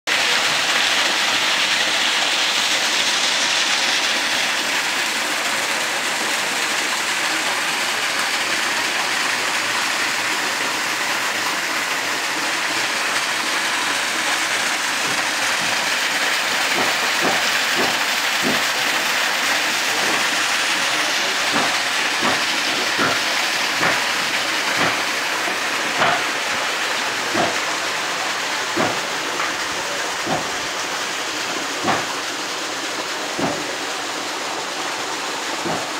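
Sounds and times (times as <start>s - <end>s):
water pouring from a hose: 0.1s - 35.9s.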